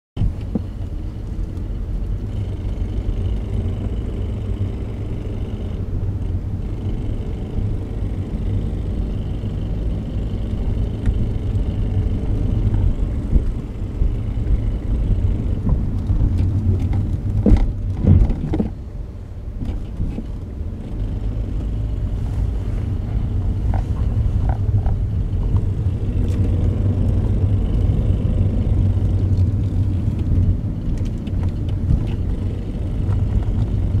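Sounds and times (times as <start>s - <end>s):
car engine low rumble: 0.2s - 34.0s.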